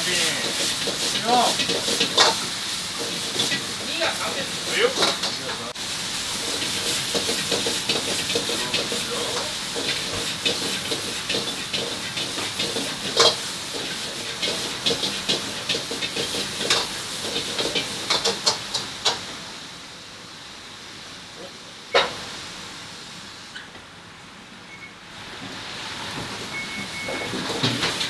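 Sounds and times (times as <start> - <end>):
vegetables stir-frying hissing: 0.0 - 24.2, 25.0 - 28.0.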